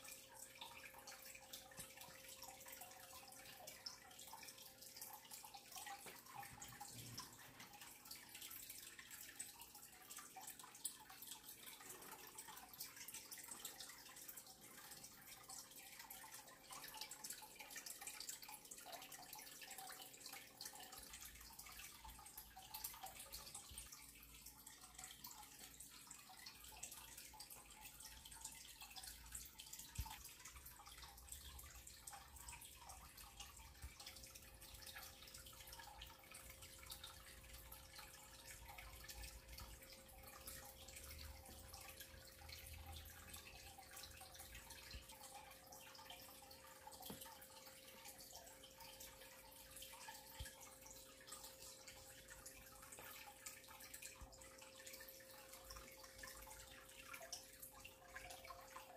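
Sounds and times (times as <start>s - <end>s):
soft dripping ticks: 0.0s - 58.9s.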